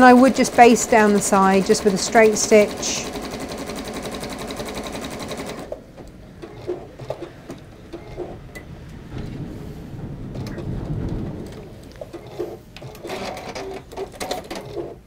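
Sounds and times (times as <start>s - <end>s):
sewing machine stitching: 0.0s - 8.5s, 10.4s - 15.0s.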